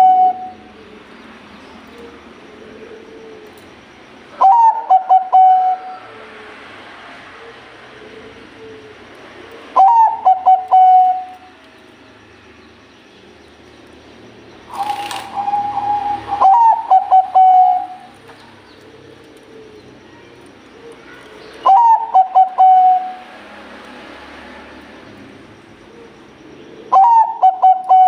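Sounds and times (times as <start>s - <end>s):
dove cooing: 0.0s - 11.5s, 14.7s - 23.4s, 25.4s - 28.0s.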